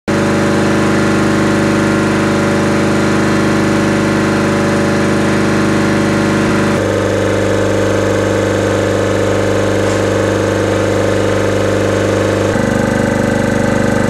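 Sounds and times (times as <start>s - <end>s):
air compressor running: 0.1s - 14.0s.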